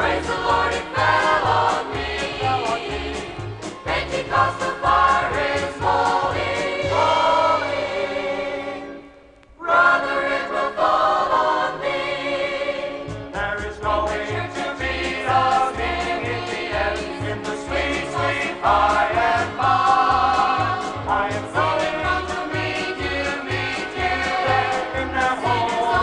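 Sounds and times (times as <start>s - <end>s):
choir singing gospel music: 0.0s - 26.0s.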